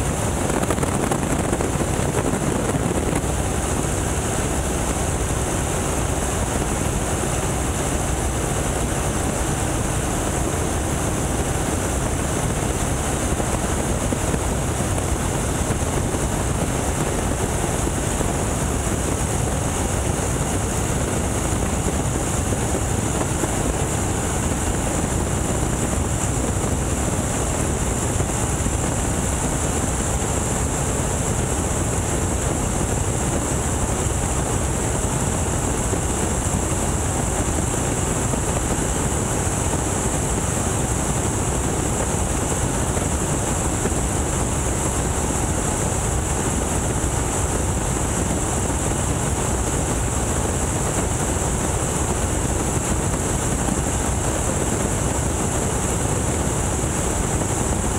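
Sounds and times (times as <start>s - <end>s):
propeller plane engine: 0.0s - 57.9s.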